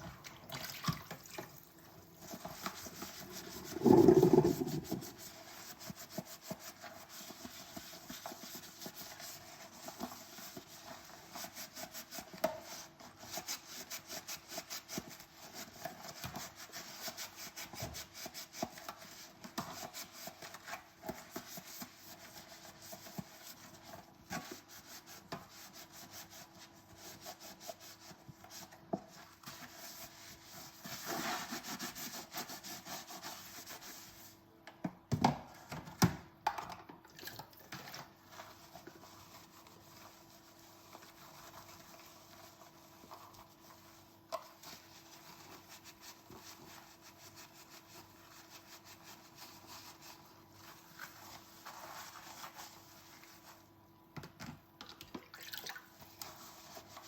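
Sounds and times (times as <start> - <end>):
dishes being scrubbed: 2.2 - 34.3, 37.7 - 53.6.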